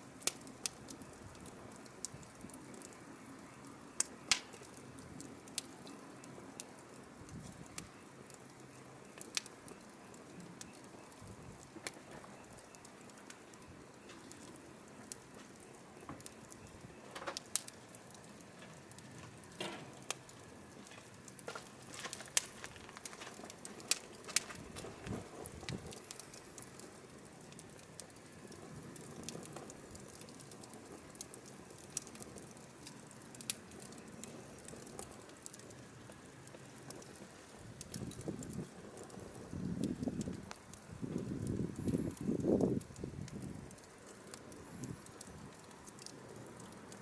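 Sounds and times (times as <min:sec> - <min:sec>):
firewood crackling and popping: 0:00.0 - 0:47.0
low steady hiss: 0:00.0 - 0:47.0.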